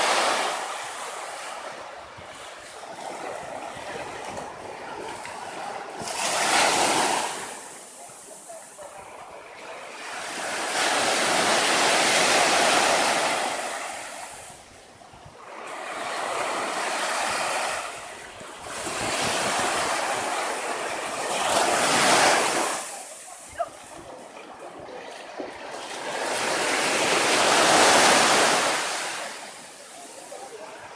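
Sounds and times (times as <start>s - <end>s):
small waves breaking on beach: 0.0s - 30.9s.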